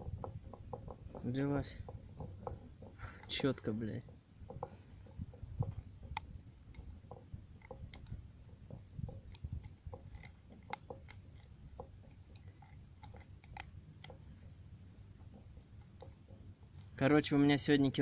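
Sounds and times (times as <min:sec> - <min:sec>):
low handling rumble: 0:00.0 - 0:18.0.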